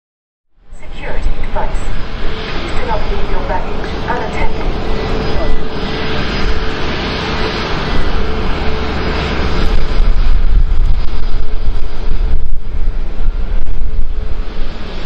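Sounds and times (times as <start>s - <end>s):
jet engines roaring: 0.6s - 15.0s
wind buffeting microphone: 0.8s - 15.0s.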